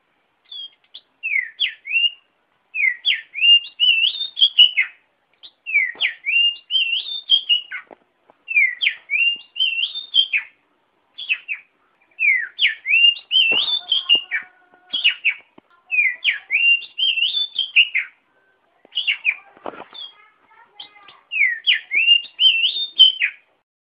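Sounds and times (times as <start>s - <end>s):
bird singing whistled phrases: 0.4s - 7.8s, 8.5s - 10.6s, 11.2s - 18.2s, 18.9s - 20.2s, 20.8s - 23.4s.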